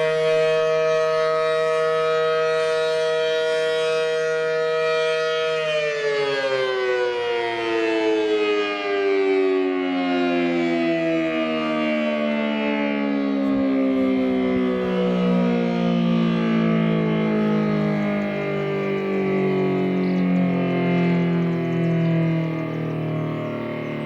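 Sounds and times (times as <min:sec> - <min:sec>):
two-tone warning siren: 0:00.0 - 0:24.0.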